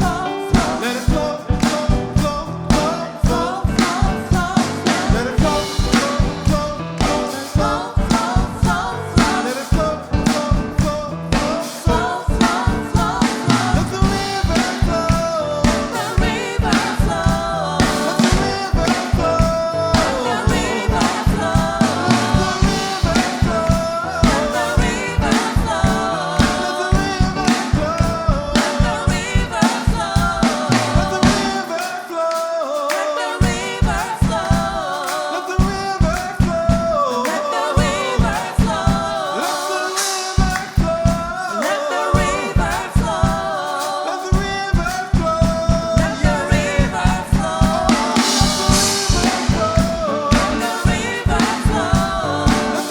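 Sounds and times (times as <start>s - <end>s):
voices singing: 0.0s - 52.9s
worship band with drums: 0.0s - 52.9s.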